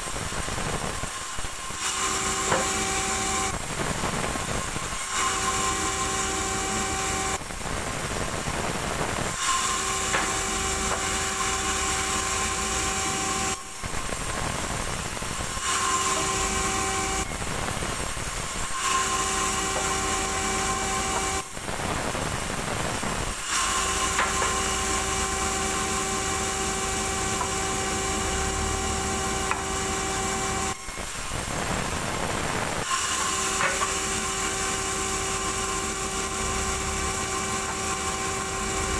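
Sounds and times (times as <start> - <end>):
band saw cutting logs: 0.5 - 38.9.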